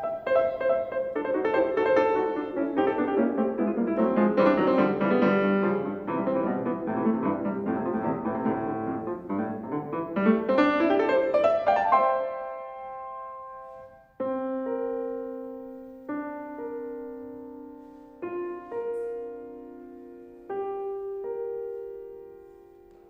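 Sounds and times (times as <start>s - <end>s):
solo piano classical piece: 0.0s - 23.0s.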